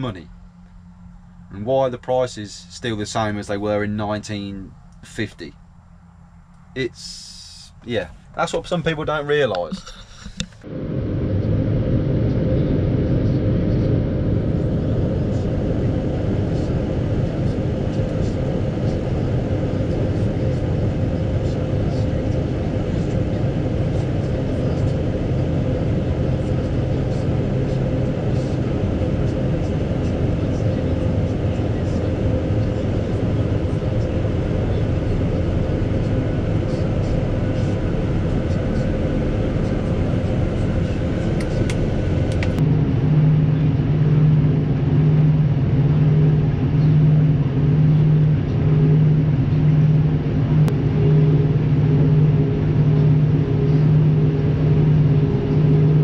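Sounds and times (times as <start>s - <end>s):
diesel engine drone: 0.0s - 56.0s
combine harvester running: 6.9s - 56.0s.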